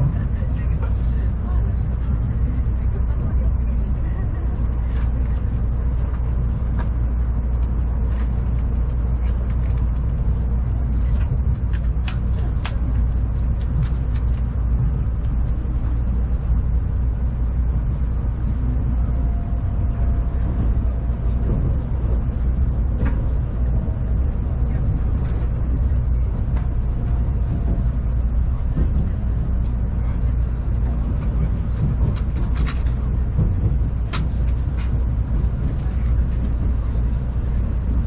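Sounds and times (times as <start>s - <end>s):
train low rumble: 0.0s - 38.0s.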